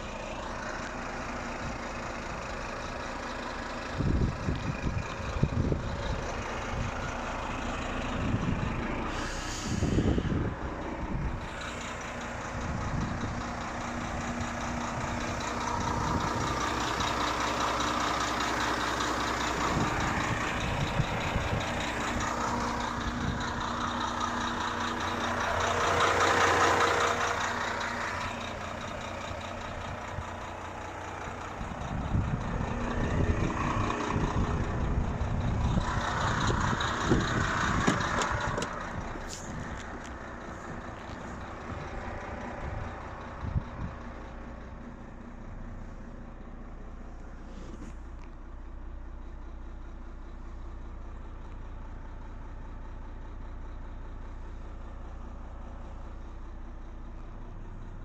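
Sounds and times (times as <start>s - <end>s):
heavy vehicle engine idling: 0.0s - 58.0s.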